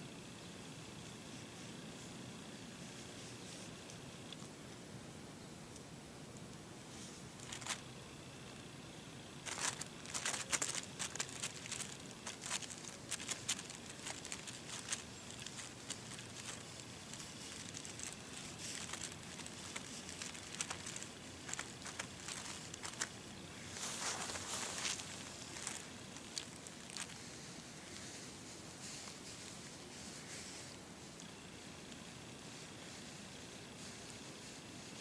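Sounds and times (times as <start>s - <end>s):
soft crinkling handling noises: 1.0s - 4.7s, 6.4s - 8.7s, 9.3s - 35.0s.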